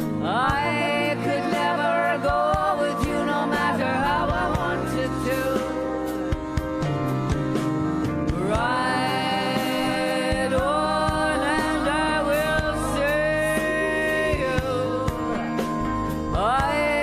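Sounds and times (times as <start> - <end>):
person singing: 0.0 - 7.3, 7.9 - 17.0
folk band playing slow song: 0.0 - 17.0.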